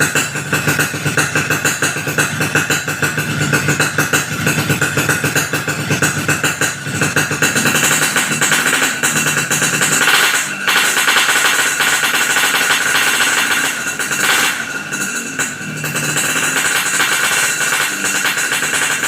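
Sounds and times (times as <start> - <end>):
loud motorcycle engine: 0.0 - 19.0.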